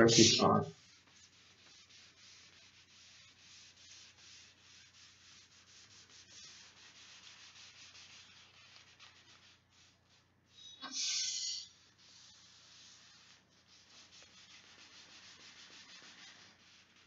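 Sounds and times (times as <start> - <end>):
hand rubbing over paper: 0.0 - 10.6, 11.6 - 17.0.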